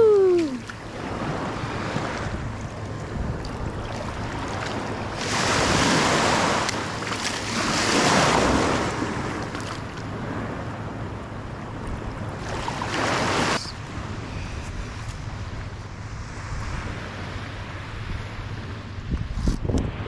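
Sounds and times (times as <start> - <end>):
small waves breaking on sand: 0.0 - 10.9, 12.1 - 18.8
wind buffeting microphone: 0.0 - 20.0.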